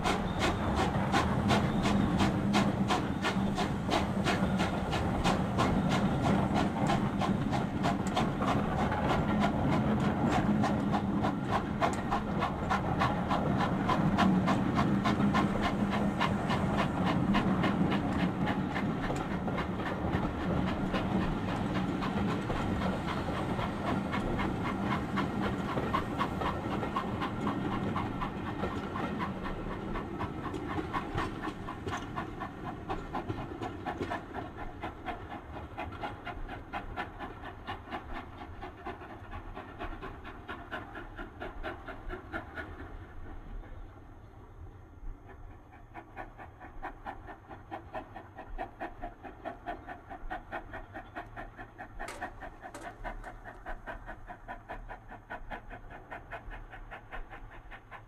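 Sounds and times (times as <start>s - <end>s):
steam locomotive exhaust beats: 0.0s - 58.0s.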